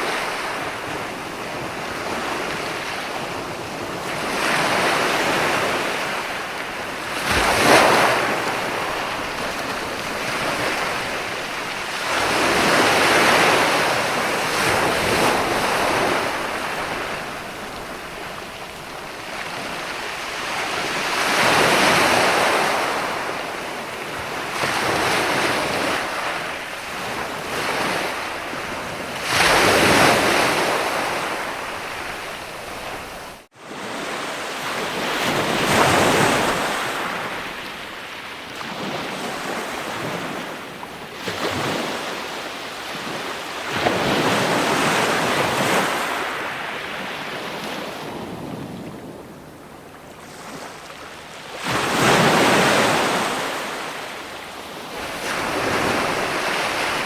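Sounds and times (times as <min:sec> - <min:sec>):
ocean waves washing in: 0:00.0 - 0:57.0.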